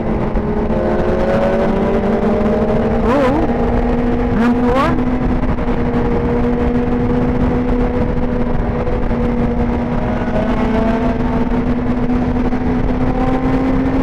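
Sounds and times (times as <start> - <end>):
motorcycle engine cruising: 0.0 - 14.0
wind and road noise: 0.0 - 14.0.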